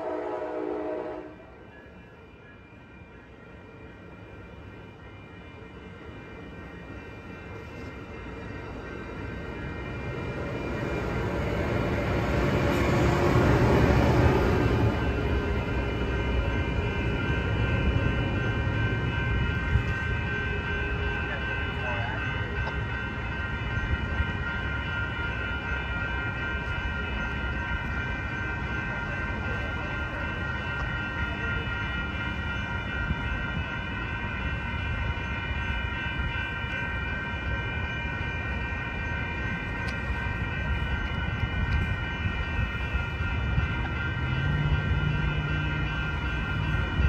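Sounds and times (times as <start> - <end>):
crossing warning bells ringing: 0.0 - 47.0.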